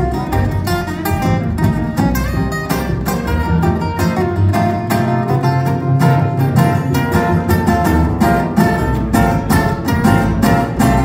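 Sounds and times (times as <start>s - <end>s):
double bass line: 0.0s - 11.0s
picked guitar notes: 0.0s - 11.0s.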